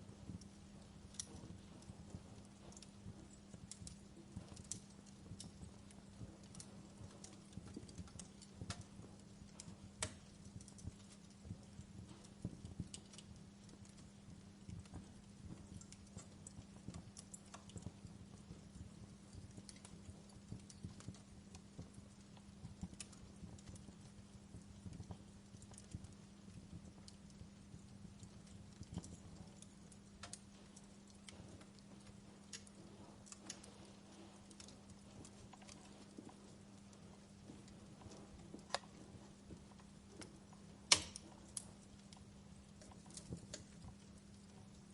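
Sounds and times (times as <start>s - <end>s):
faint low hum: 0.0s - 44.9s
faint low rumble: 0.0s - 44.9s
wood fire crackling: 0.0s - 44.9s.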